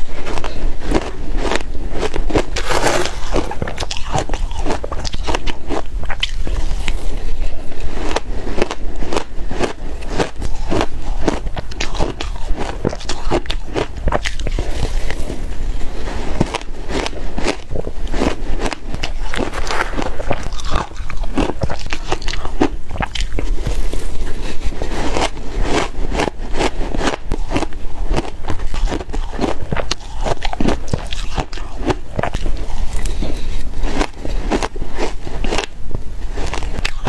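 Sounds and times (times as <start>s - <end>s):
ice being chewed: 0.4s - 15.4s, 16.3s - 35.7s, 36.4s - 37.0s.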